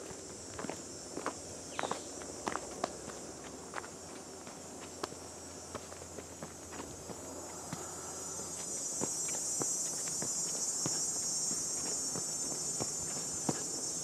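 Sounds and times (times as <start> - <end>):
footsteps on dirt trail: 0.0 - 14.0
high-pitched insect drone: 0.0 - 14.0.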